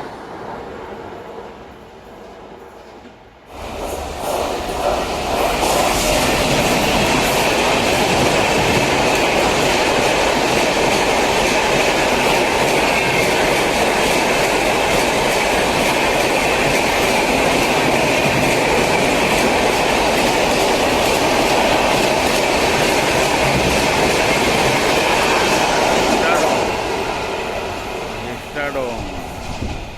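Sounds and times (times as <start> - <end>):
train wheels rumbling on rail: 0.0 - 29.9.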